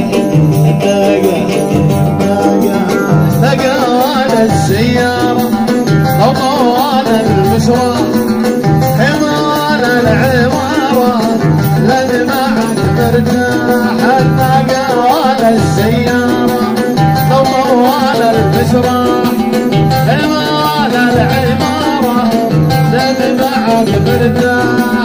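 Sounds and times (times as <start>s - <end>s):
wavering melodic line: 0.0s - 24.8s
jingling percussion beat: 0.0s - 25.0s
oud playing: 0.0s - 25.0s.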